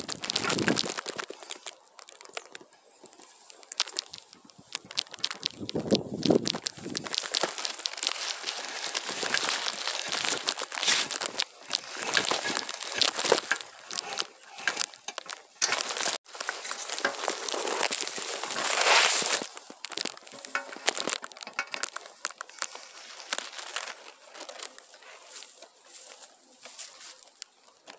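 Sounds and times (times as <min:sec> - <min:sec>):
pine branches rustling and crackling: 0:00.0 - 0:27.9.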